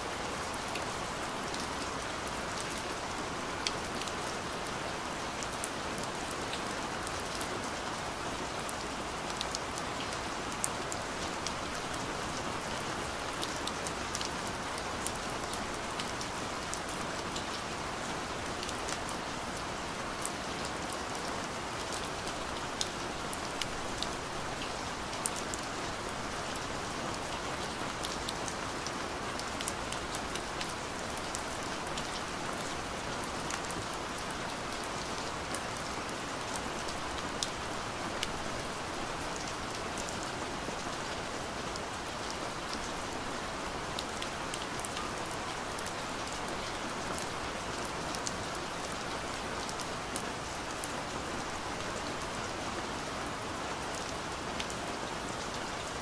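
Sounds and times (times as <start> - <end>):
steady rain on wet ground: 0.0 - 56.0.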